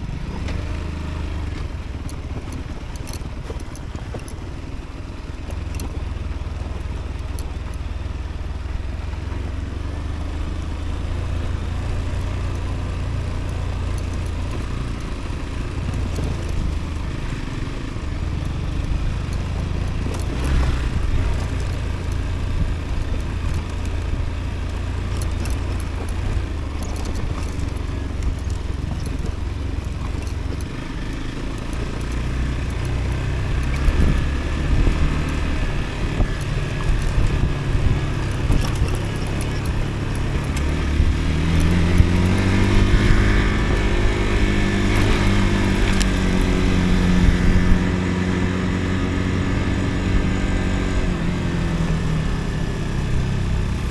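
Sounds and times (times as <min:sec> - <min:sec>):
motorcycle engine running: 0:00.0 - 0:53.9
wind rumble on microphone: 0:08.8 - 0:53.9.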